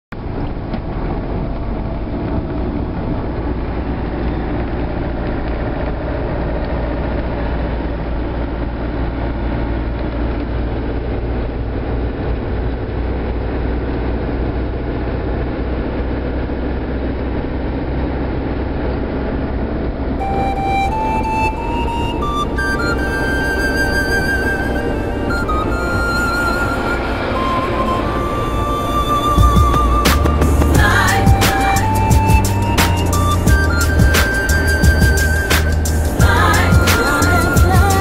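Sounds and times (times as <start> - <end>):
vehicle engine and road rumble: 0.1 - 38.0.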